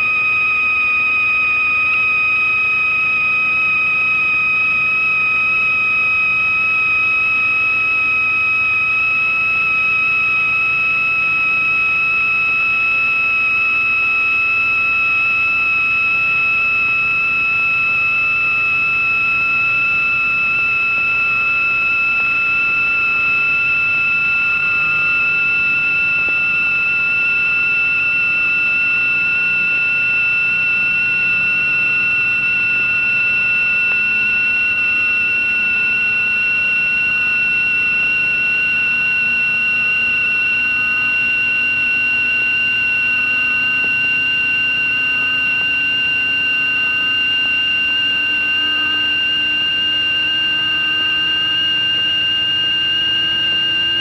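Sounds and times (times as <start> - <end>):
rising electronic sine tone: 0.0 - 54.0.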